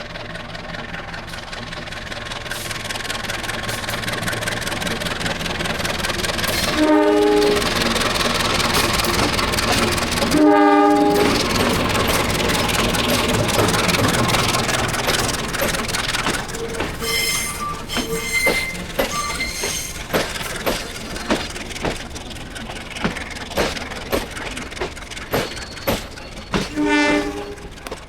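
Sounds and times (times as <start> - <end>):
train rumble: 0.0 - 28.0
wheels clacking over rail joints: 0.0 - 28.0
wheels squealing: 0.4 - 28.0.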